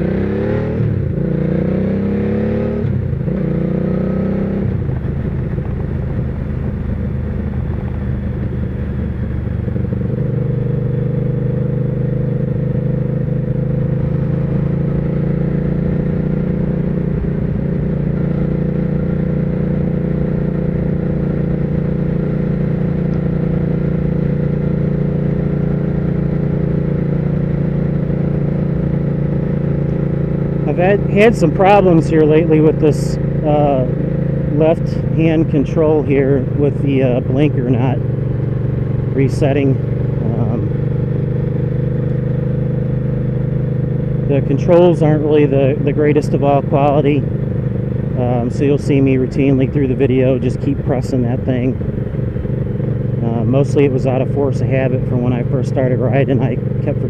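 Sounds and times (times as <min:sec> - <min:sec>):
motorcycle engine shifting up: 0:00.0 - 0:57.0.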